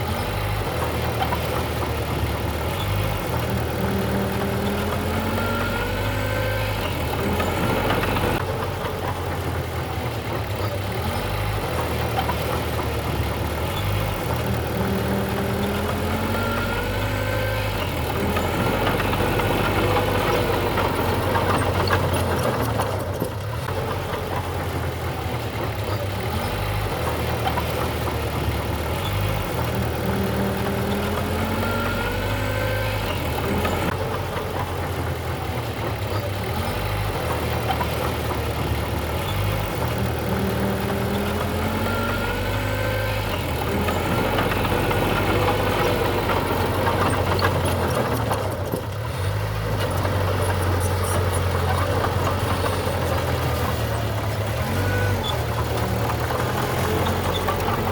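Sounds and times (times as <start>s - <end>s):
heavy machinery diesel engine: 0.0s - 57.9s.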